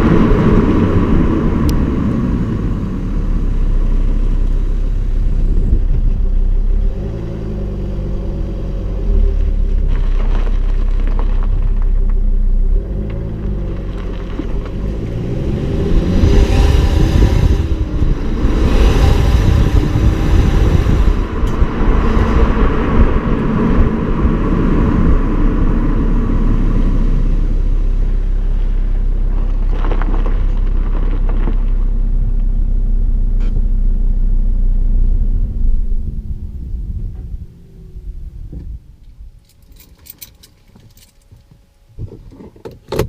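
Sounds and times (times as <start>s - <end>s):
diesel engine running: 0.0s - 39.4s.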